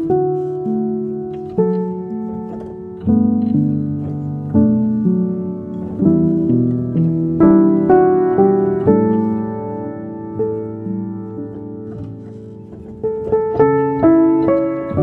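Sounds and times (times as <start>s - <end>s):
piano tune: 0.0s - 15.0s.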